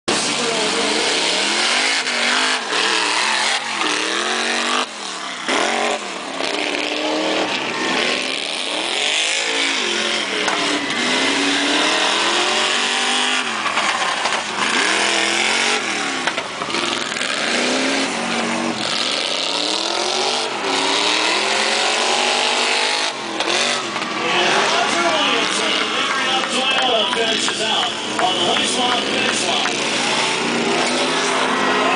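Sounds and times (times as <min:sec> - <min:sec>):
engine revving hard: 0:00.1 - 0:31.9.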